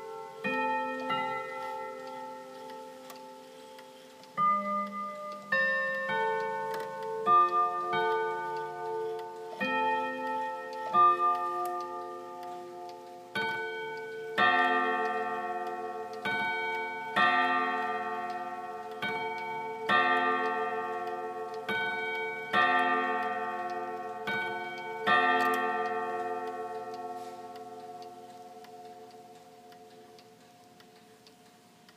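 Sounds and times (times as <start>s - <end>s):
clock striking the hour: 0.0s - 3.5s, 4.1s - 31.9s.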